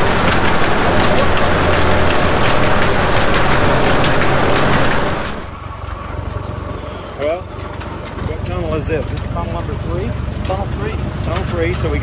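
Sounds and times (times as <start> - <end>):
railcar engine hum: 0.0 - 12.0
steel wheels on track: 0.0 - 12.0.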